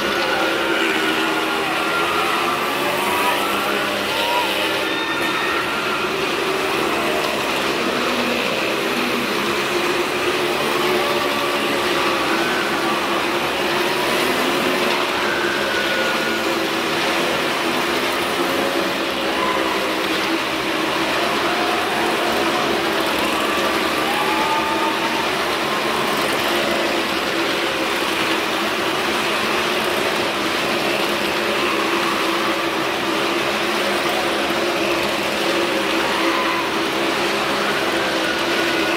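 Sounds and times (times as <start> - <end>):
motorcycle engines running hard: 0.0 - 38.9.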